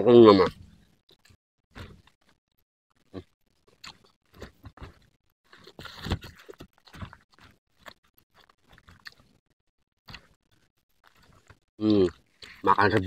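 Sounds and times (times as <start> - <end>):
person chewing food: 0.5 - 13.0.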